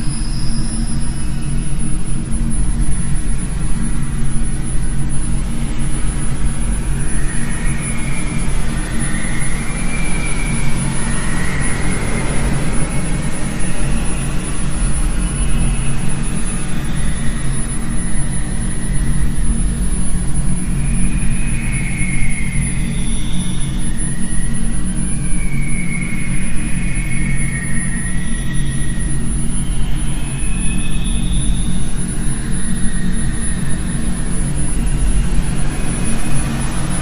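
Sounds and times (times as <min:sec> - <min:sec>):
hazy higher tones: 0:00.0 - 0:37.0
low rumbling drone: 0:00.0 - 0:37.0.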